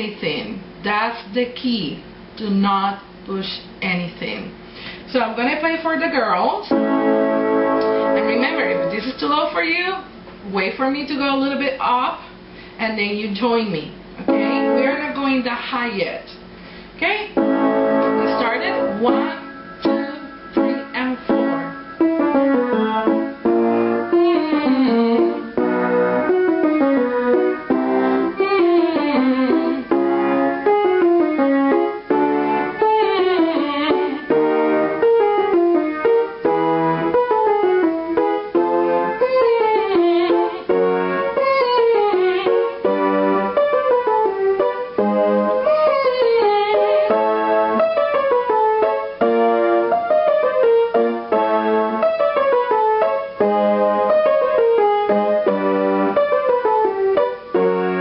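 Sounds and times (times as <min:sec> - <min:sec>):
piano scale runs: 0:05.4 - 0:11.6, 0:14.2 - 0:15.6, 0:17.2 - 0:58.0.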